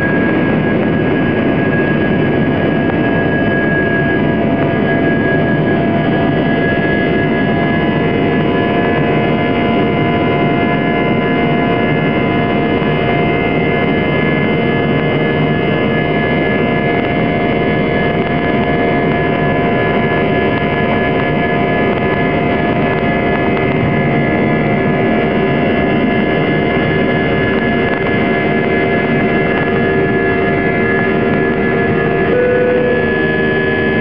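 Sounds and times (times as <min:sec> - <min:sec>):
jet engines at takeoff thrust: 0:00.0 - 0:34.0
whining engine tones: 0:00.0 - 0:34.0.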